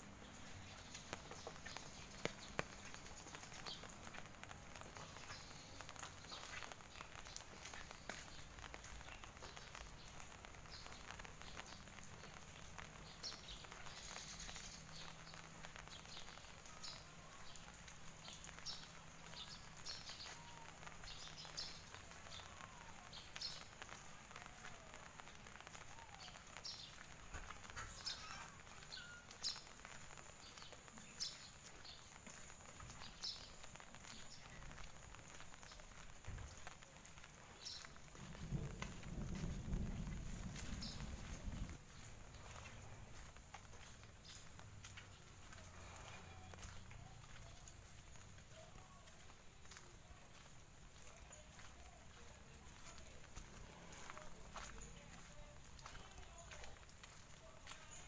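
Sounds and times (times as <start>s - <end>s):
birds chirping: 0.0s - 58.0s
footsteps on wet pavement: 0.0s - 58.0s.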